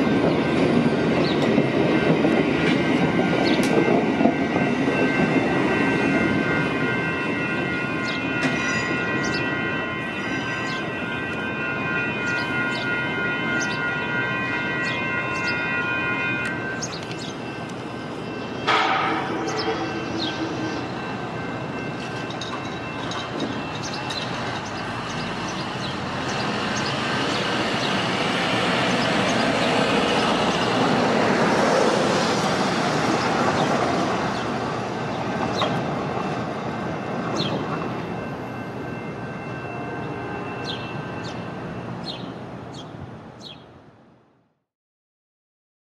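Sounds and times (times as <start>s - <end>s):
steady high tone: 0.0s - 42.7s
train wheel and rail noise: 0.0s - 44.5s.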